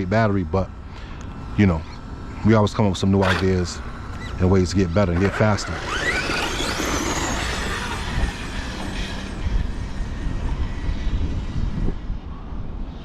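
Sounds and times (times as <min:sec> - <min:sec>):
rush of tyres and drivetrain: 0:00.6 - 0:13.0
electric motor whining: 0:01.2 - 0:12.1.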